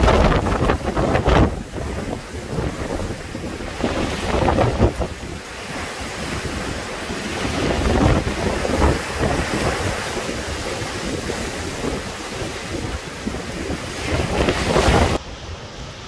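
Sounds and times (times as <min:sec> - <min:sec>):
wind buffeting microphone: 0:00.0 - 0:15.2
gusty wind through trees: 0:00.0 - 0:16.0.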